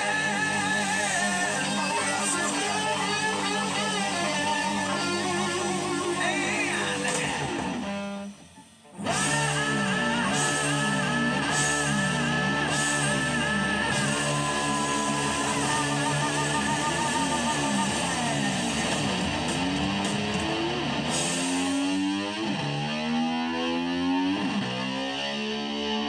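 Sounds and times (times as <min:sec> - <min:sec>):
rock music with electric guitar: 0:00.0 - 0:26.0.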